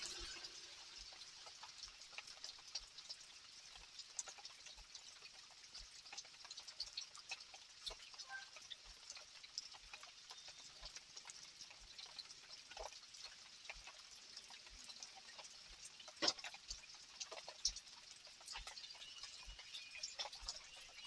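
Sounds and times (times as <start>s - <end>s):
rain dripping and tapping: 0.0s - 21.0s.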